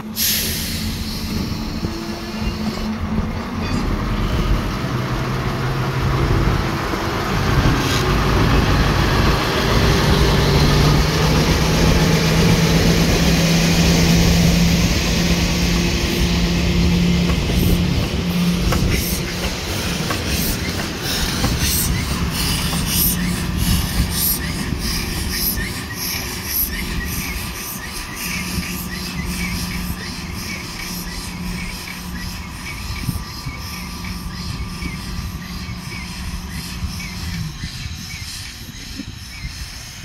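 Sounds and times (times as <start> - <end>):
locomotive engine running: 0.0 - 40.0
wheels clicking and squealing on rails: 0.0 - 40.0.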